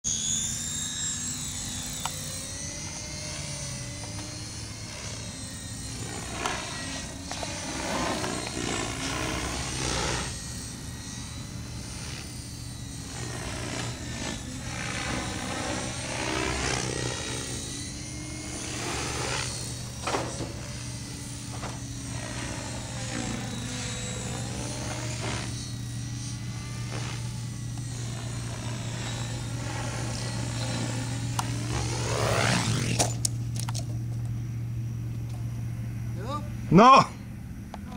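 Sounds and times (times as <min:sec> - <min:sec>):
model helicopter rotor hum: 0:00.0 - 0:37.9.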